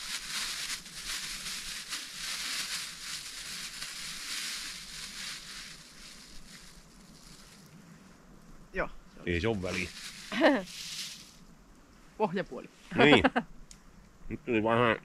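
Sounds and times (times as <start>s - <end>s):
uneven rustling hiss: 0.0s - 15.0s.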